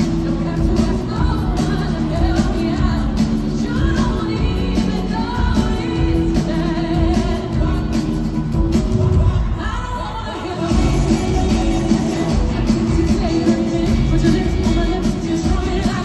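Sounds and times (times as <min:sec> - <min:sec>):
bass and drums beat: 0:00.0 - 0:09.6, 0:10.7 - 0:16.0
person singing: 0:00.0 - 0:16.0.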